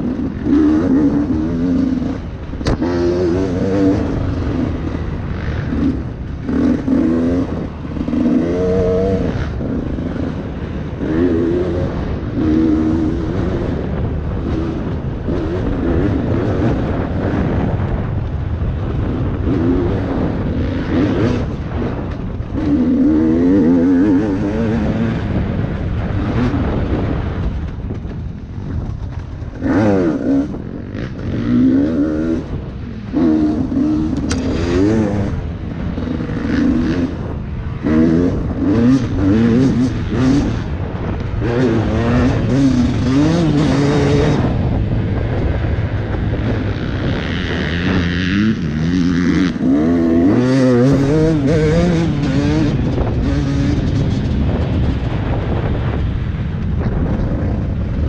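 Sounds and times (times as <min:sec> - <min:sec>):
dirt bike engine revving: 0:00.0 - 0:28.1, 0:28.7 - 0:56.0.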